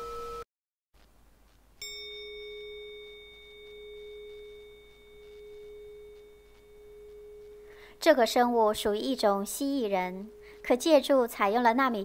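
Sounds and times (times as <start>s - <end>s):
bell-like metal tone ringing: 1.8s - 11.6s.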